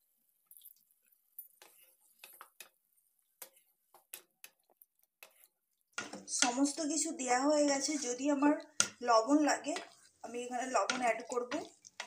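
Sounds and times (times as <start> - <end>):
wooden spatula stirring vegetables: 0.0 - 12.0.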